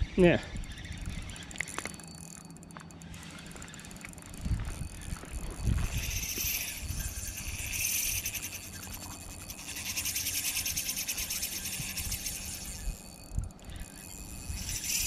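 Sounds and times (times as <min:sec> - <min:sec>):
fishing reel clicking: 0:00.0 - 0:15.0.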